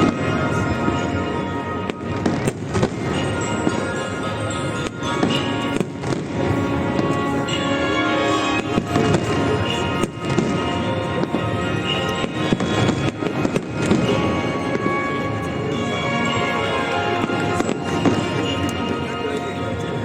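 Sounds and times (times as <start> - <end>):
fireworks bangs and crackle: 0.0 - 20.0
loud music: 0.0 - 20.0.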